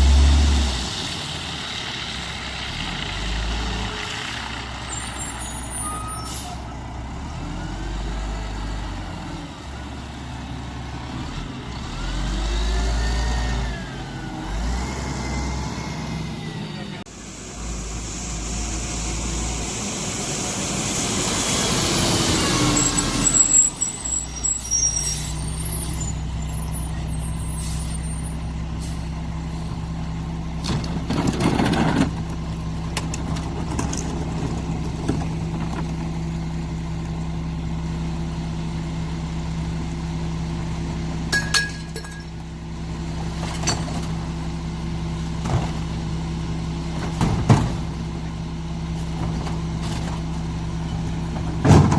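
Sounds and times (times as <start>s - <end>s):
truck engine revving and idling: 0.0s - 51.9s.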